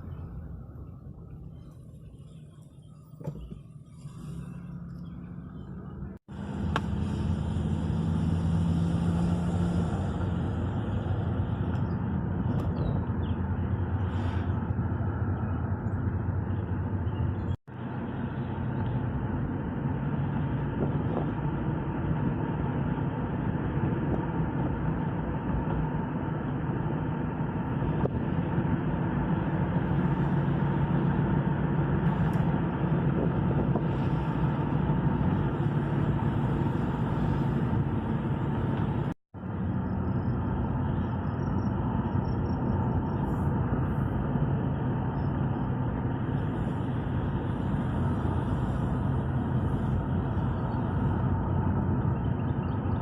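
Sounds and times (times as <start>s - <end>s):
road noise: 0.0s - 53.0s
vehicle engine hum: 0.0s - 53.0s.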